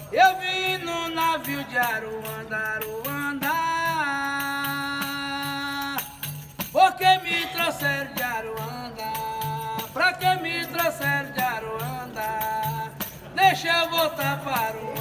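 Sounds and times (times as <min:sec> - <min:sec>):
man singing: 0:00.0 - 0:15.0
pandeiro jingles: 0:00.0 - 0:15.0.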